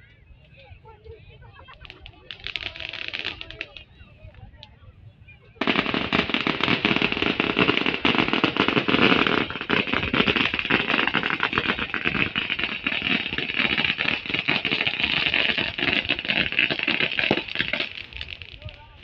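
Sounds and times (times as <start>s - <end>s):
firecrackers crackling and banging: 1.6s - 4.7s, 5.6s - 19.0s.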